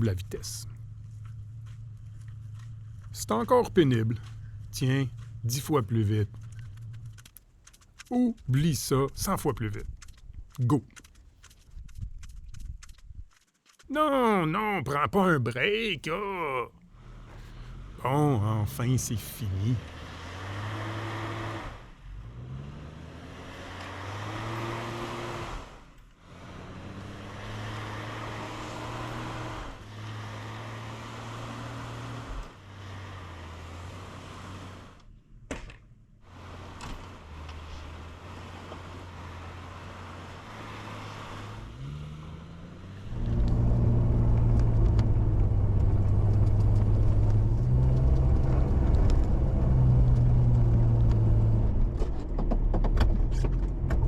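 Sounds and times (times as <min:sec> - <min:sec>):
car engine running under load: 0:00.0 - 0:13.0, 0:16.8 - 0:54.0.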